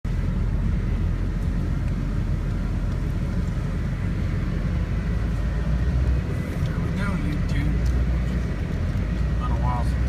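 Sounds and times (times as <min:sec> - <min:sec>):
vehicle engine rumble: 0:00.0 - 0:10.0.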